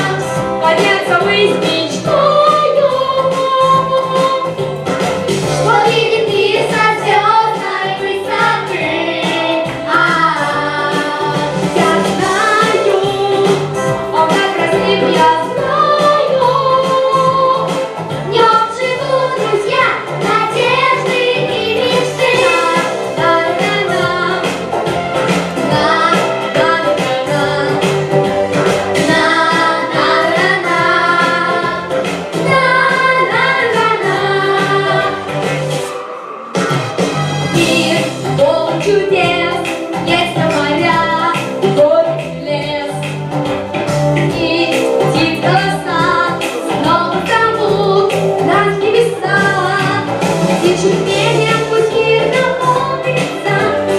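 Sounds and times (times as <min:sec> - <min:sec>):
instrumental backing: 0:00.0 - 0:53.9.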